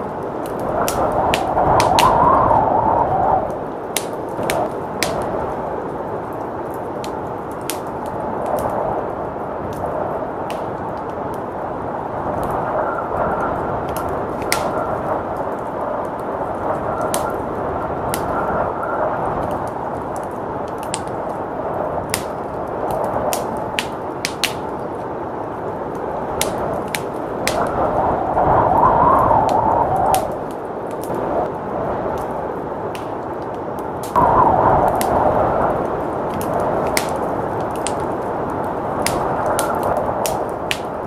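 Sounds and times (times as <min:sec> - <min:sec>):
blizzard wind rushing: 0:00.0 - 0:41.0
wood fire crackling: 0:00.0 - 0:41.0.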